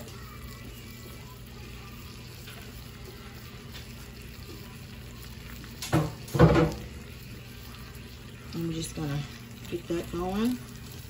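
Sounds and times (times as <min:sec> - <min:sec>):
shrimp sizzling in a pan: 0:00.0 - 0:11.0.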